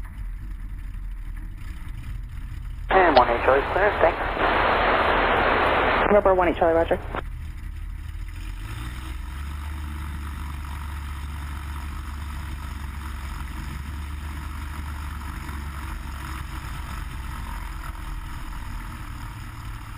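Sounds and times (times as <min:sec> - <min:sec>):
propeller plane engine droning: 0:00.0 - 0:19.9.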